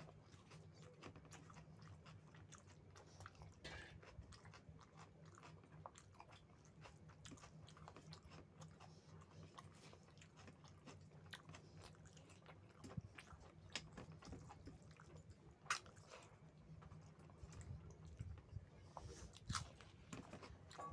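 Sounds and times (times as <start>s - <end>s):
chewing and mouth sounds: 0.0s - 20.9s
low steady hum: 0.0s - 20.9s.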